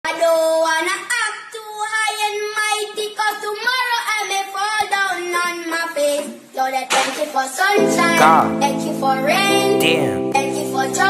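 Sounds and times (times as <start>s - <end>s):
child-like voice singing: 1.8s - 11.0s.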